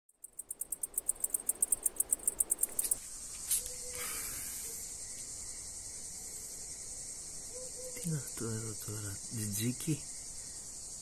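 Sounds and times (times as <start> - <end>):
cicada buzzing: 0.2 - 11.0.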